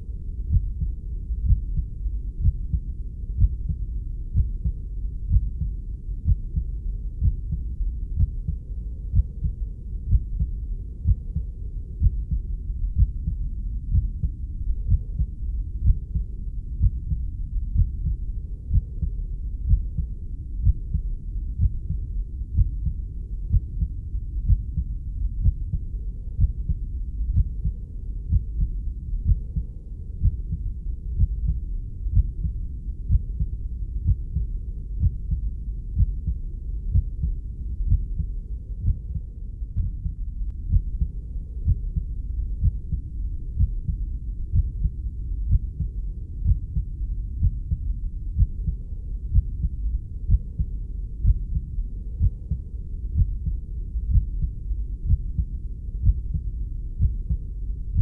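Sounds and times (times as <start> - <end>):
continuous low whoosh: 0.0 - 58.0
heartbeat thumps: 0.4 - 58.0.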